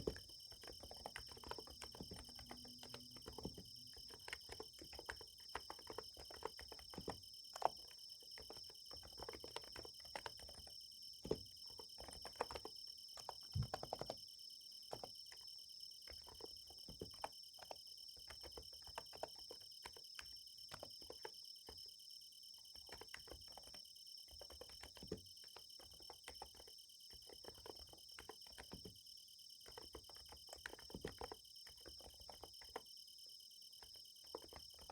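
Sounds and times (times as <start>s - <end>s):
soft keyboard typing: 0.0s - 14.3s, 14.9s - 21.9s, 22.7s - 29.0s, 29.6s - 32.9s, 33.8s - 34.9s
night insects chirring: 0.0s - 34.9s.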